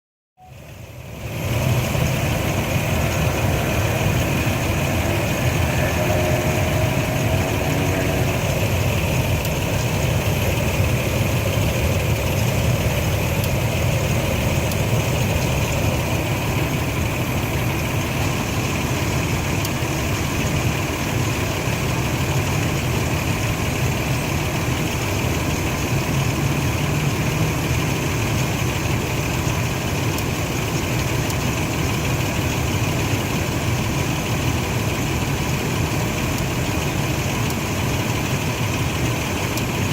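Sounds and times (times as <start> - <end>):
engine clicking noise: 0.4 - 39.9
engine idling roughly: 0.4 - 39.9.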